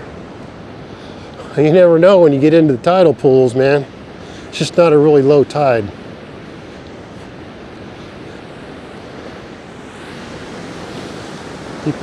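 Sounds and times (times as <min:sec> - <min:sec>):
ocean surf washing in: 0:00.0 - 0:12.0.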